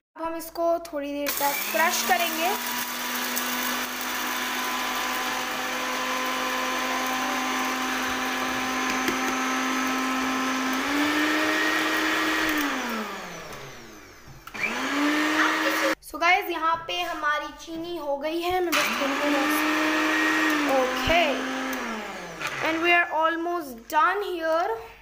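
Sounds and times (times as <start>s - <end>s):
mixer grinder motor running: 1.2s - 16.0s, 18.7s - 24.2s.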